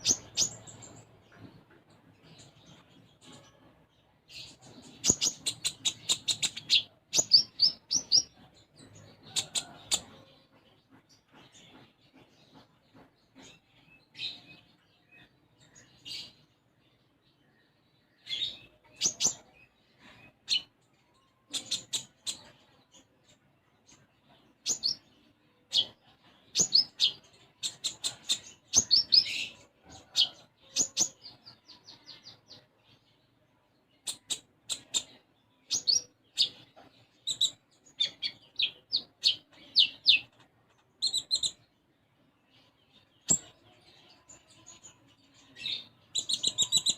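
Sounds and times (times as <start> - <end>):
songbird chirping: 0.0 - 46.9.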